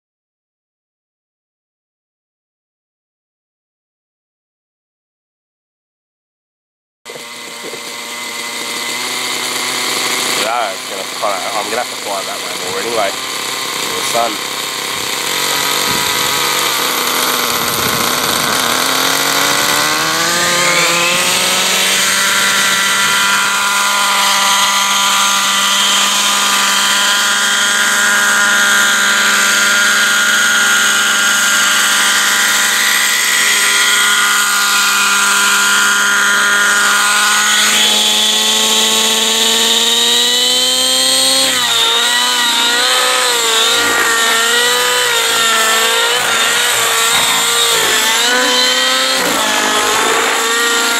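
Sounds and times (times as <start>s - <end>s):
model helicopter engine and rotor: 7.1s - 50.9s.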